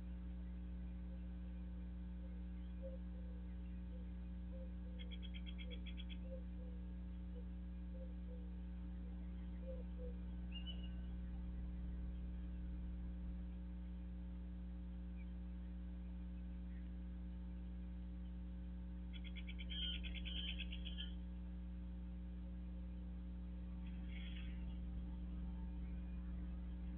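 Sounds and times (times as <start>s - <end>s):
electrical mains hum: 0.0s - 26.9s.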